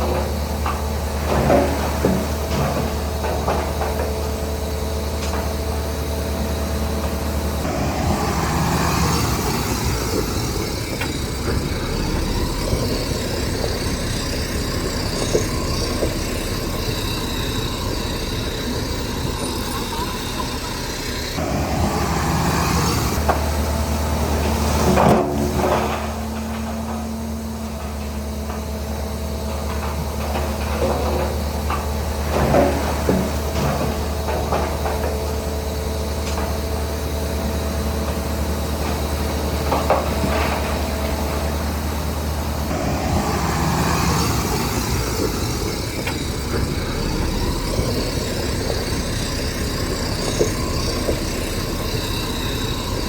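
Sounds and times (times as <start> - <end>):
diesel earthmover droning: 0.0 - 53.0.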